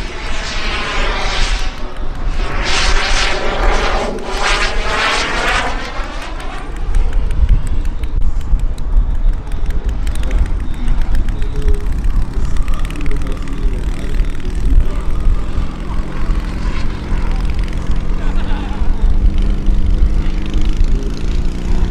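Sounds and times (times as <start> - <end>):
jet turbine whine passing: 0.0 - 21.9
wind buffeting: 0.0 - 21.9.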